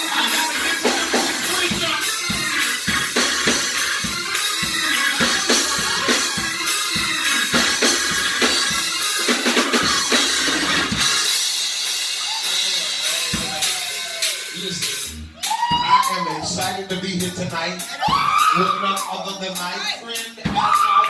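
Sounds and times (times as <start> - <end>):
drum kit beat: 0.0 - 21.0
gospel band playing: 0.0 - 21.0.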